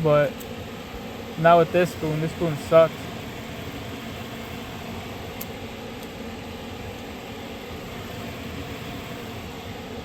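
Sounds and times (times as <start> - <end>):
background hum and hiss: 0.0 - 10.0.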